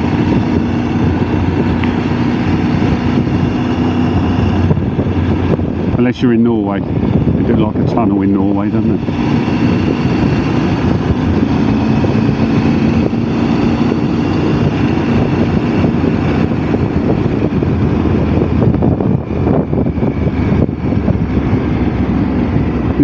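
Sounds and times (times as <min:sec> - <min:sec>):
motorcycle engine cruising: 0:00.0 - 0:23.0
road noise: 0:00.0 - 0:23.0
rushing wind: 0:00.0 - 0:23.0.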